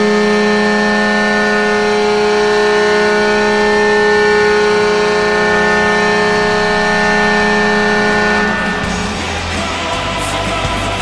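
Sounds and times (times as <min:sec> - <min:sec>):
goal horn blast: 0:00.0 - 0:09.6.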